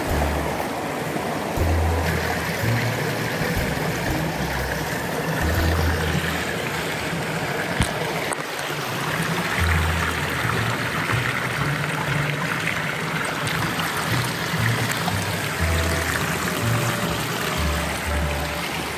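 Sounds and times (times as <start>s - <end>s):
stream water running over rocks: 0.0s - 18.9s.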